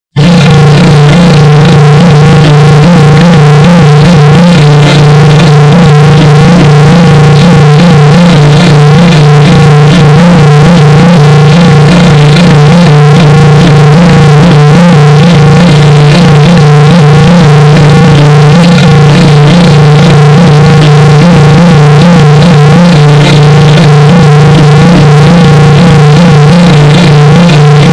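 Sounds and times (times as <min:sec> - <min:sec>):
distorted synthesizer drone: 0:00.0 - 0:27.9.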